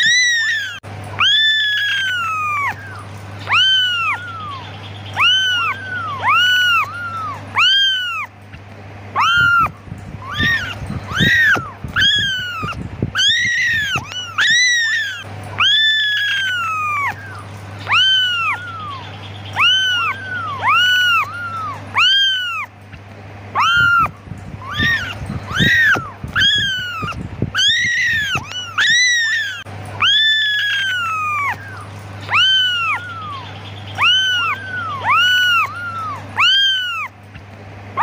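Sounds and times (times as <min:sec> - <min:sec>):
kittens meowing: 0:00.0 - 0:38.0.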